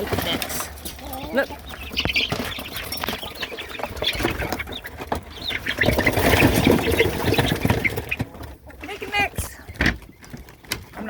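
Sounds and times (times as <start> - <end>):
chickens clucking: 0.0 - 11.0
wings flapping: 0.0 - 11.0.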